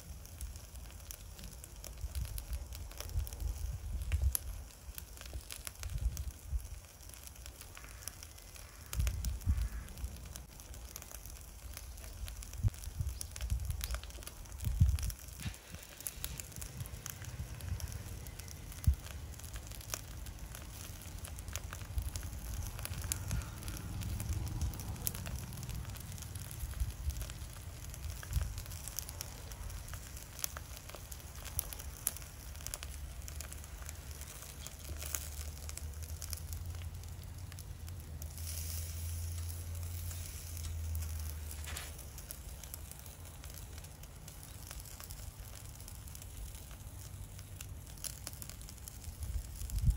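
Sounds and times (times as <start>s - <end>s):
charcoal crackling and popping: 0.0s - 49.9s
fish sizzling on grill: 0.0s - 49.9s.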